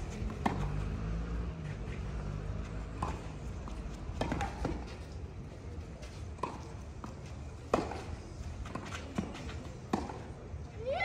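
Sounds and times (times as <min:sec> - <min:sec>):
racquets striking tennis ball: 0:00.0 - 0:10.4.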